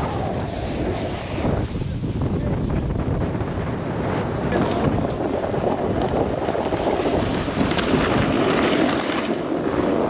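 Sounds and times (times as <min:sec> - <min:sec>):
snowboard scraping over snow: 0:00.0 - 0:10.0
wind buffeting microphone: 0:00.0 - 0:10.0.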